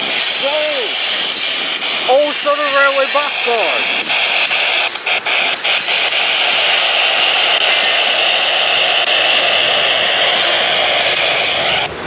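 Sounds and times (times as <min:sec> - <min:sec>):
steel wheels rolling on rail: 0:00.0 - 0:12.0
wheels clicking over rail joints: 0:00.0 - 0:12.0.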